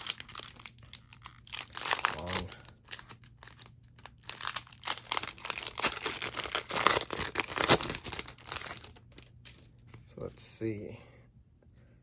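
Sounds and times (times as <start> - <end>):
wrapper tearing and crinkling: 0.0 - 9.6.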